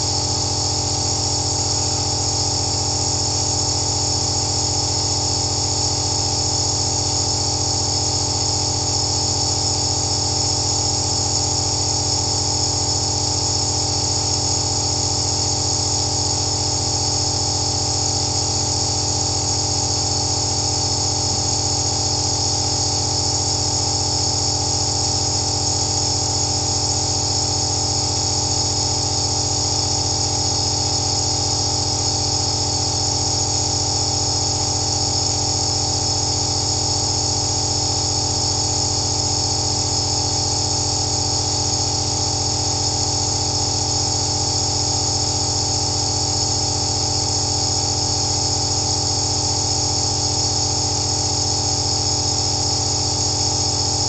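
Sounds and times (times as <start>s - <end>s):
nebulizer motor hum: 0.0s - 54.0s.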